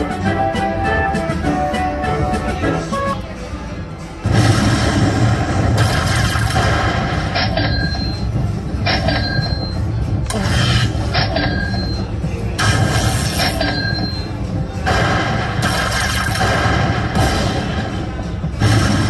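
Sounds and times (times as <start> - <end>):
slot machine win sounds: 0.0 - 19.0.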